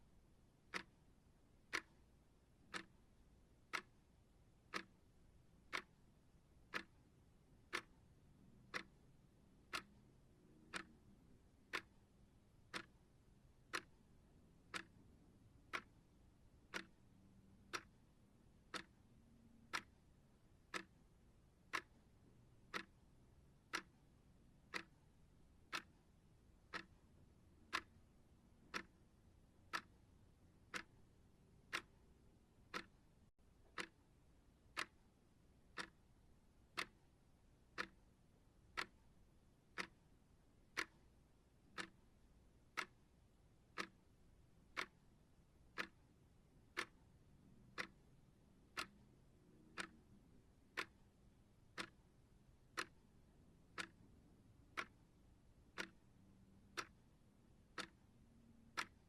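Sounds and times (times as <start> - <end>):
clock ticking: 0.4 - 59.0.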